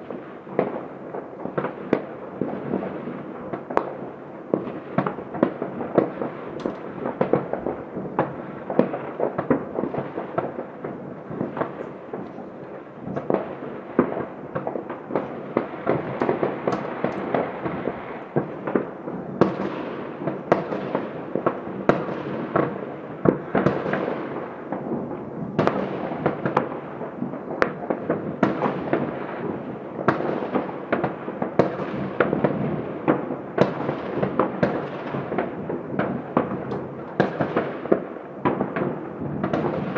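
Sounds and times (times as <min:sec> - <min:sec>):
distant fireworks crackling: 0:00.0 - 0:39.9.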